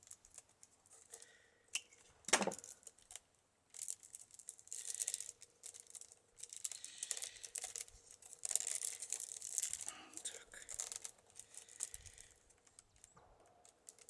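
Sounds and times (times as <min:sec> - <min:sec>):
rod crackling through basket weave: 0:00.0 - 0:14.0.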